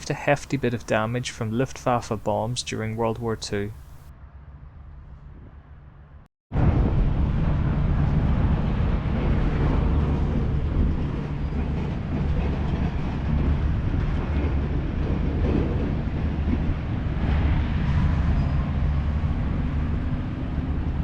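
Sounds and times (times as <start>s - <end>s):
mechanical rumble with rattle: 3.9s - 21.0s.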